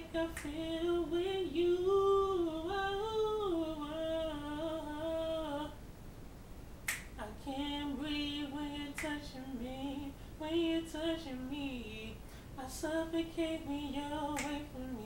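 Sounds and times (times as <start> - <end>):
young man singing unaccompanied: 0.0 - 5.8, 7.2 - 15.0.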